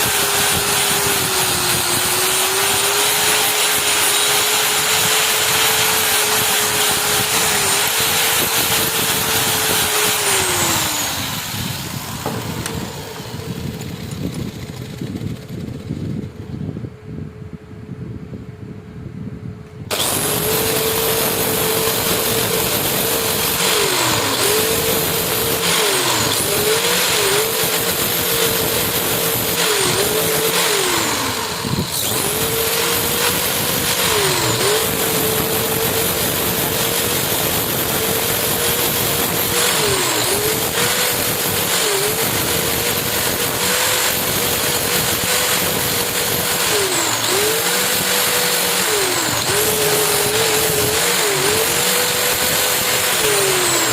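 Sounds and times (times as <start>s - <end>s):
electric grinder on metal: 0.0s - 16.2s, 19.9s - 53.9s.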